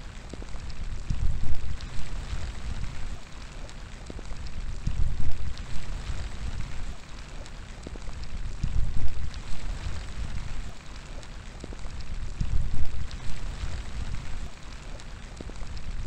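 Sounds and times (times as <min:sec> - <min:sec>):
rain hissing: 0:00.0 - 0:16.0
wind gusts rumbling: 0:00.1 - 0:03.2, 0:04.0 - 0:16.0.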